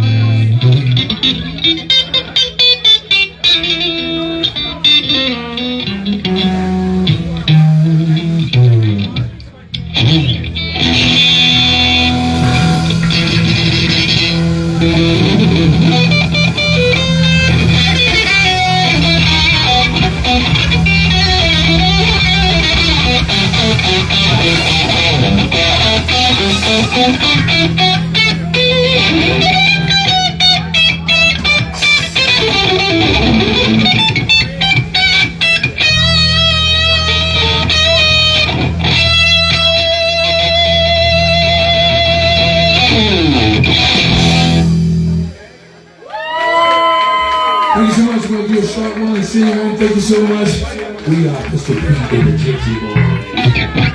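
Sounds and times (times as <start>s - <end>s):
bass line: 0.0s - 53.9s
electric guitar lead runs: 0.0s - 53.9s.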